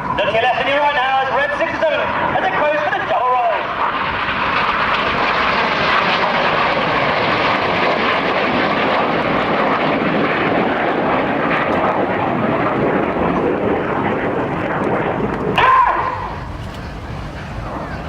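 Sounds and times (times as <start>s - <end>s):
jets flying past: 0.0s - 18.0s.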